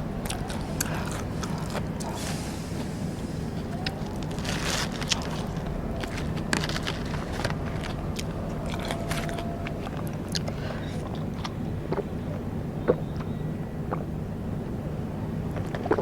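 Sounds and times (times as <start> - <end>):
steady low hum: 0.0 - 16.0
crunchy chewing: 0.2 - 14.4, 15.2 - 16.0.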